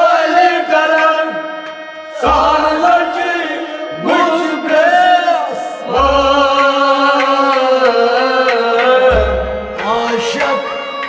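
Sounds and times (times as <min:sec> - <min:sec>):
instrumental accompaniment: 0:00.0 - 0:11.0
person singing long lines: 0:00.0 - 0:11.0.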